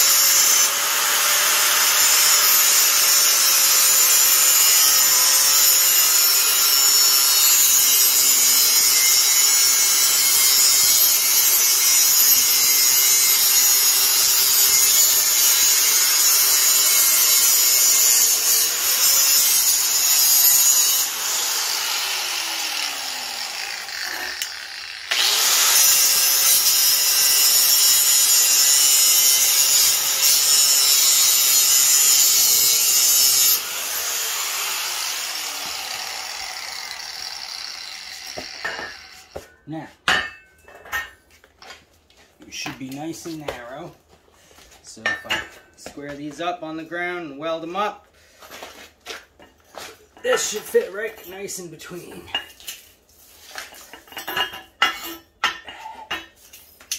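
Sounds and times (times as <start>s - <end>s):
angle grinder cutting metal: 0.0s - 39.5s, 50.2s - 56.4s.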